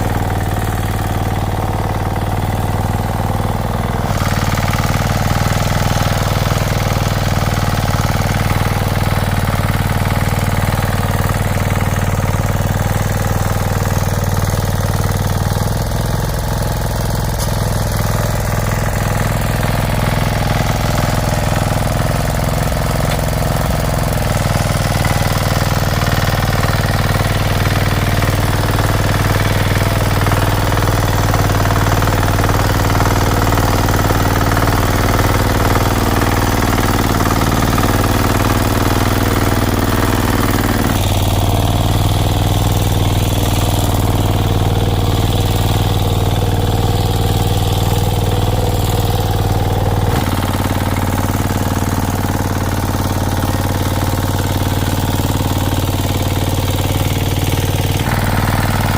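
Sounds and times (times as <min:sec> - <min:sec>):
engine running with deep thump: 0:00.0 - 0:58.9.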